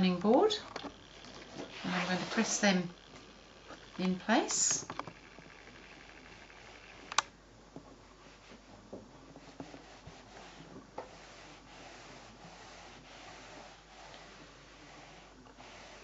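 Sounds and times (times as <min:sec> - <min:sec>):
iron rubbing over fabric: 0:00.0 - 0:07.1, 0:08.1 - 0:16.0.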